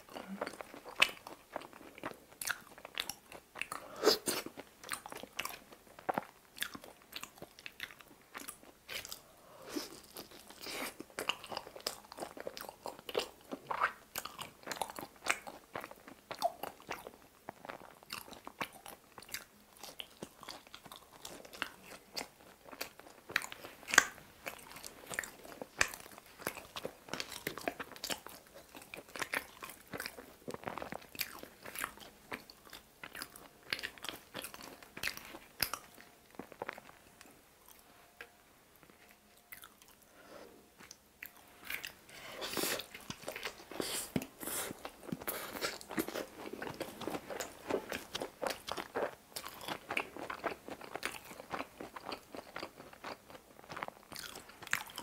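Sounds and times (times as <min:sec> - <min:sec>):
chewing with wet mouth sounds: 0:00.0 - 0:40.1, 0:40.8 - 0:55.0.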